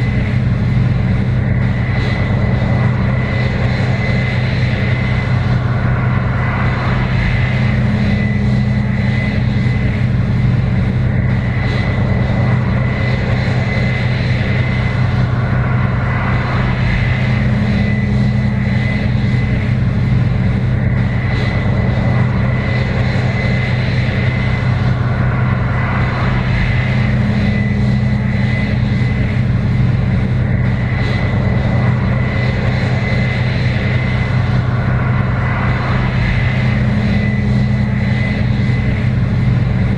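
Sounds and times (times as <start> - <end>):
combine diesel engine drone: 0.0 - 39.9
thin high whine: 0.0 - 39.9.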